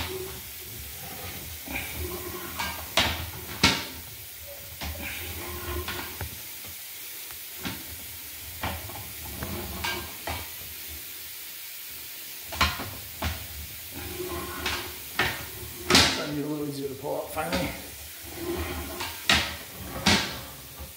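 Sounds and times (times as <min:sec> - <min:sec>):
faint steady hiss: 0:00.0 - 0:20.9.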